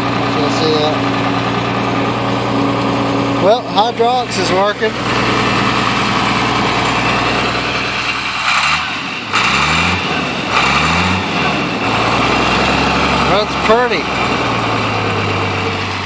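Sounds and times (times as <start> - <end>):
tractor engine running and revving: 0.0 - 16.0.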